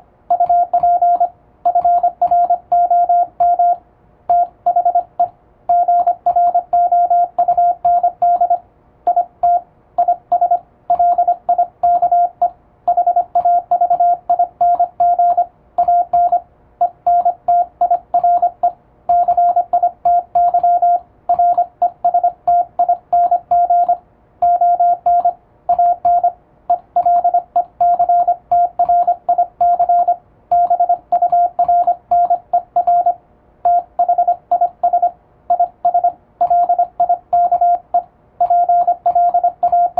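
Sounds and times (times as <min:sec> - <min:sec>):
morse code tone: 0:00.3 - 0:39.9.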